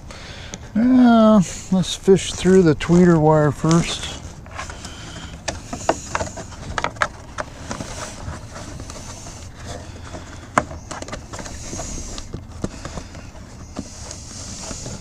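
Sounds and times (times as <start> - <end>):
wire handling clicks and rustles: 1.7 - 15.0.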